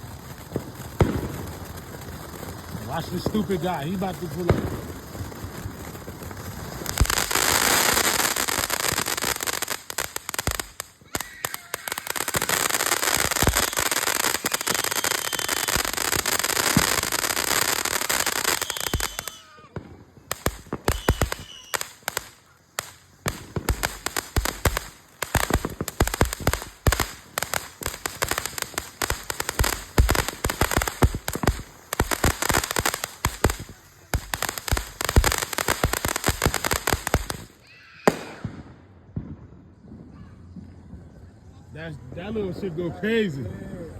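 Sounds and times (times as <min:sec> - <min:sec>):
firework fountain hissing: 0:00.0 - 0:38.6
firework crackling pops: 0:00.0 - 0:40.8.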